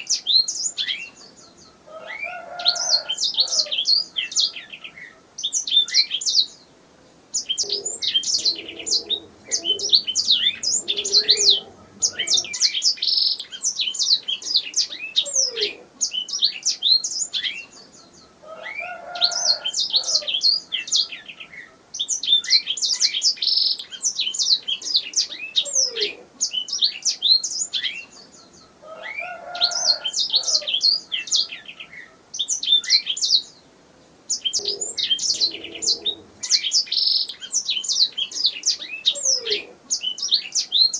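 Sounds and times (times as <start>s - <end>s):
canary singing: 0.0s - 6.6s, 7.3s - 33.6s, 34.3s - 40.9s.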